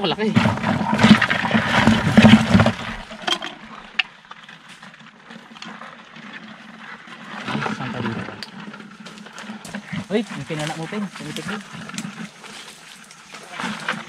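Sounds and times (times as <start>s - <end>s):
crabs scratching on plastic: 0.0s - 14.0s.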